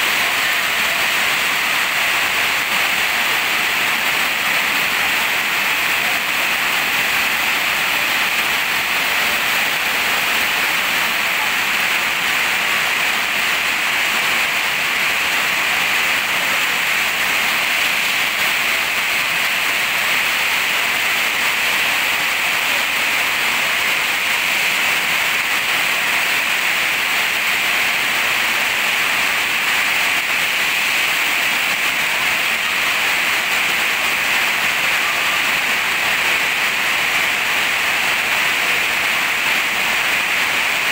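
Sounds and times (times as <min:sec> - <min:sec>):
heavy rain on metal roof: 0:00.0 - 0:40.9
water pouring off roof: 0:00.0 - 0:40.9.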